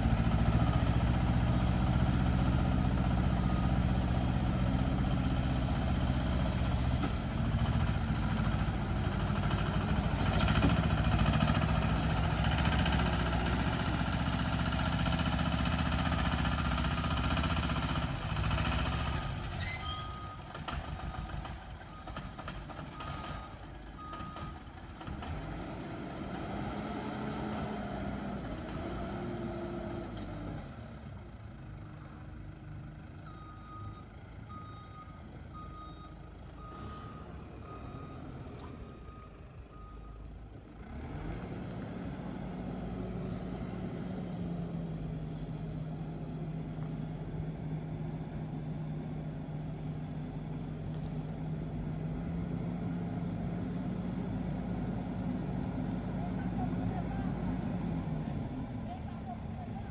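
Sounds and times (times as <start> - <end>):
diesel engine running loud: 0.0 - 59.9.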